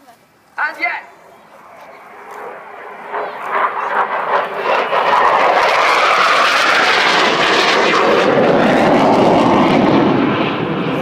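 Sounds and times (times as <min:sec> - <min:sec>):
jet roar passing overhead: 0:00.8 - 0:11.0.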